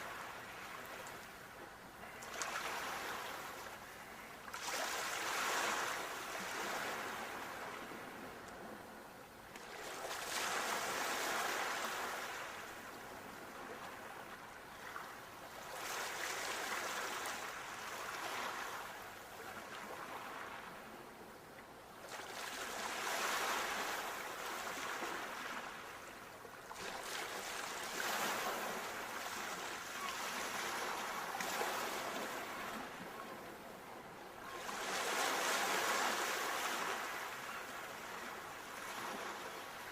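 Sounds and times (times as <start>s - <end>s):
sea waves breaking on shore: 2.0s - 8.4s, 9.5s - 21.0s, 22.0s - 33.7s, 34.4s - 39.9s.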